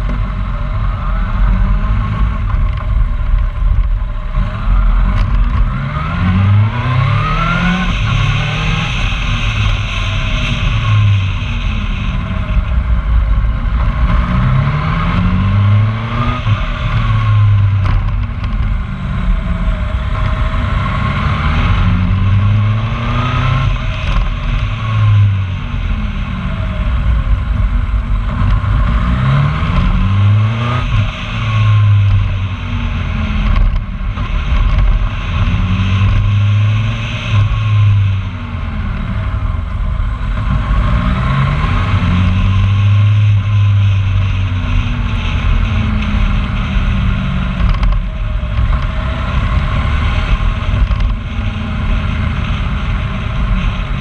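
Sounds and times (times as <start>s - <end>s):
vehicle engine shifting gears: 0.0s - 54.0s
wind and road noise: 0.0s - 54.0s.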